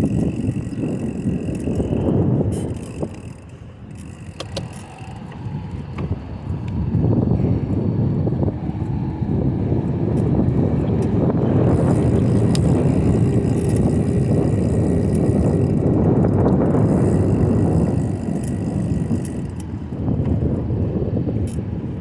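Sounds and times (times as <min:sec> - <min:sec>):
bicycle tyres rolling on pavement: 0:00.0 - 0:22.0
wind rushing over microphone: 0:00.0 - 0:22.0.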